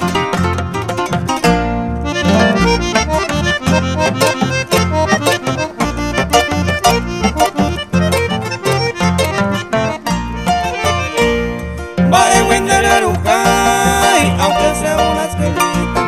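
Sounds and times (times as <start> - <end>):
accordion melody: 0.0 - 16.0
bass line: 0.0 - 16.0
strummed guitars: 0.0 - 16.0.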